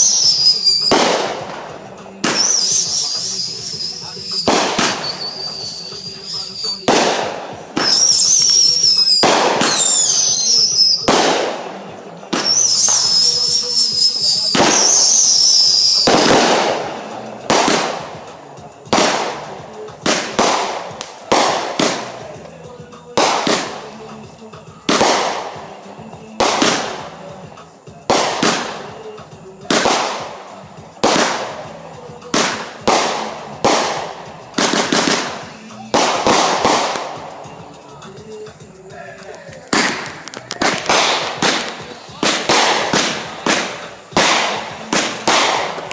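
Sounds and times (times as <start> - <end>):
echoing firework booms: 0.0 - 13.5, 14.3 - 22.4, 23.2 - 45.9
firework bangs: 0.0 - 45.9
firework whistles: 0.0 - 45.9.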